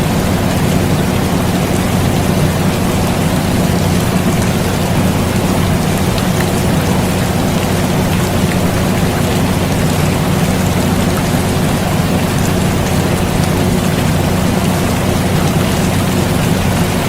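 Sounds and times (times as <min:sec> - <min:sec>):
air conditioner hum: 0:00.0 - 0:17.0
rain falling: 0:00.0 - 0:17.0.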